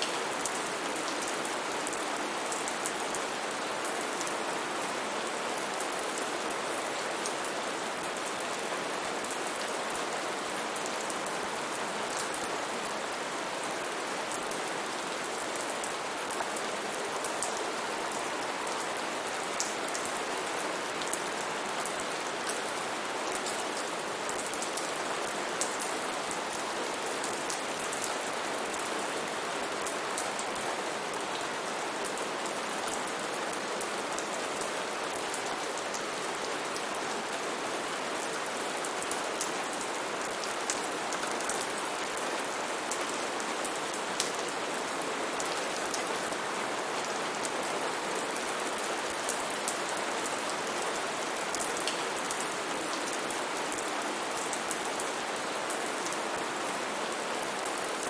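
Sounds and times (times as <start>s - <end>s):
heavy rain on foliage: 0.0s - 58.0s.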